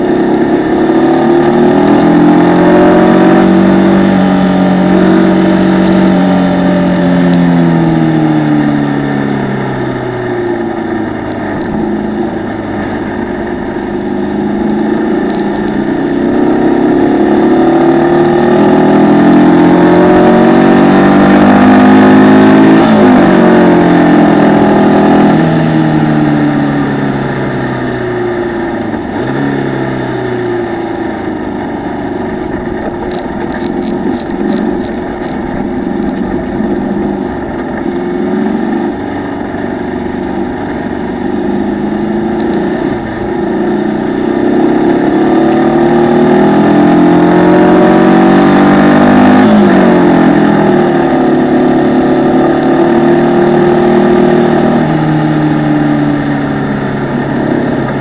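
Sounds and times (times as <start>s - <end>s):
racing car engine revving: 0.0s - 31.6s, 32.2s - 58.0s.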